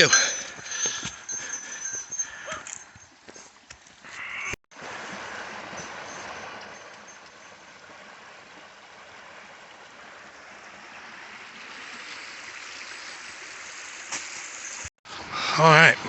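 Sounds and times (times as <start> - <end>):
creek water rushing: 3.1 - 16.0.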